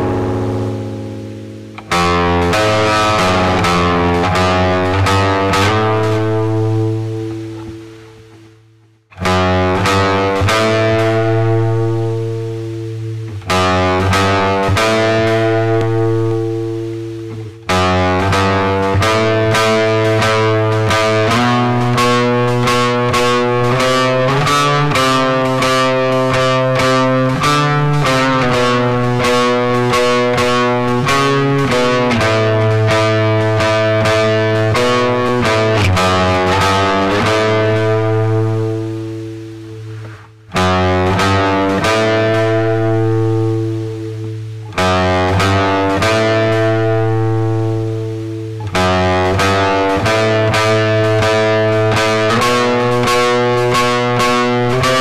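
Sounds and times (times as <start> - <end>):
guitar chords ringing: 0.0 - 55.0
rapid repeated guitar chords: 0.0 - 55.0.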